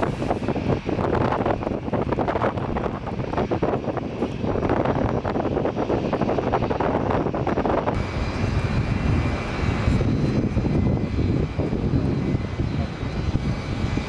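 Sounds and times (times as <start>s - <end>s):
jet engines rumbling and whining: 0.0s - 14.0s
wind on microphone: 0.0s - 14.0s.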